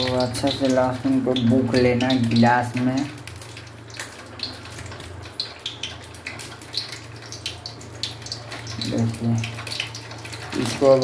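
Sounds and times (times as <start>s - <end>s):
hot oil crackling and popping: 0.0s - 11.0s.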